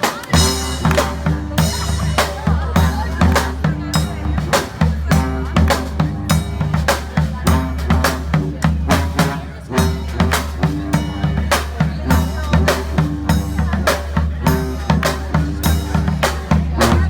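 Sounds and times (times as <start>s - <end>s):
brass band playing: 0.0s - 17.0s
drum kit beat: 0.0s - 17.0s.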